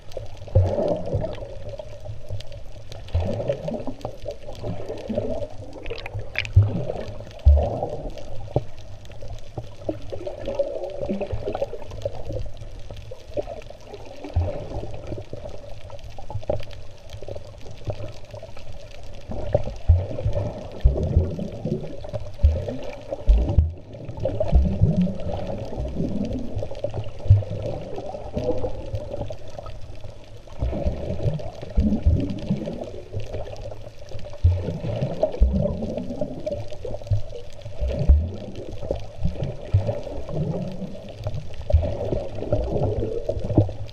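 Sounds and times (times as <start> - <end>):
underwater splashing and bubbling: 0.0 - 43.9.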